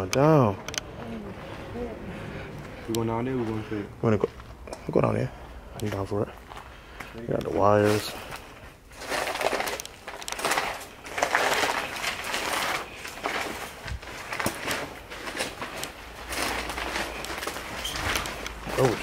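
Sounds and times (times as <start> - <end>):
footsteps crunching over debris: 0.9 - 19.0.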